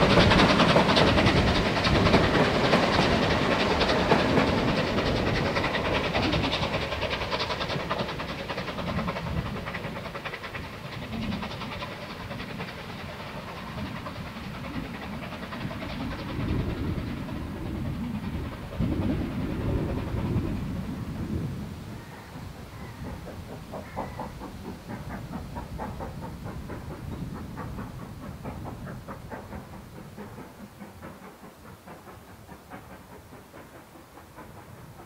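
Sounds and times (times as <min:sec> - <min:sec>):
distant steam locomotive exhaust beats: 0:00.0 - 0:35.0.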